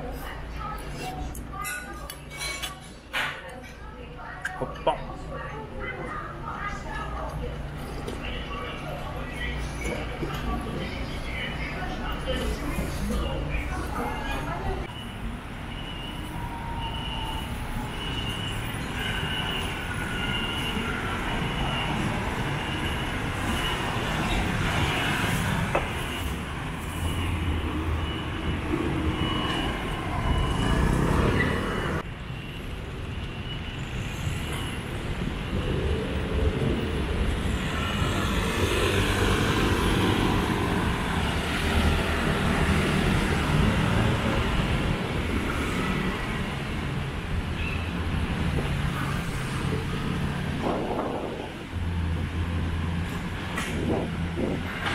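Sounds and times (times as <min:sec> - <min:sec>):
scooters and cars passing: 0:10.0 - 0:54.9.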